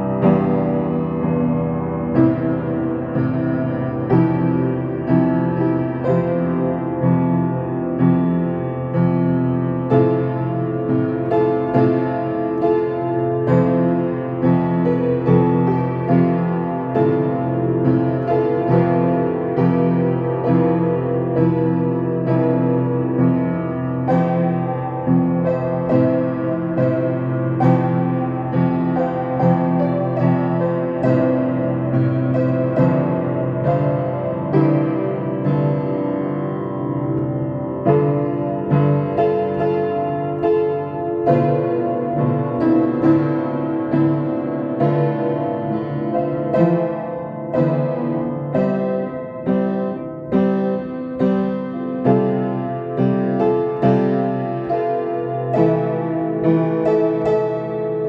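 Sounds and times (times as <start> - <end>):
calm piano piece: 0.0 - 58.0.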